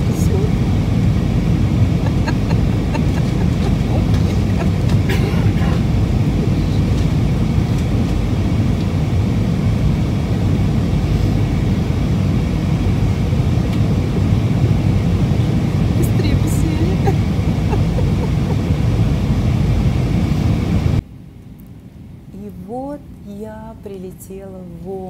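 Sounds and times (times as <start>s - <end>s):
airliner cabin roar: 0.0s - 22.3s.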